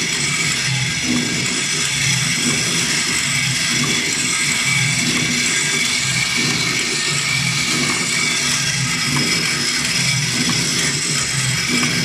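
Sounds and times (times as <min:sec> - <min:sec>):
thread rolling machine running: 0:00.0 - 0:12.0.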